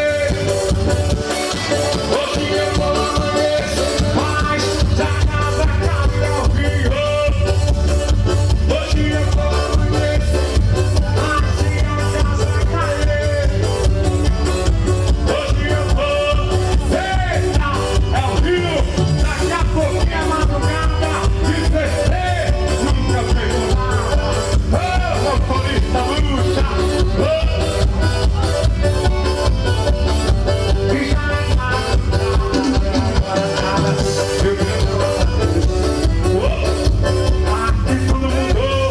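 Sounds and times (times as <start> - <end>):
live dance music with heavy bass: 0.0 - 38.9.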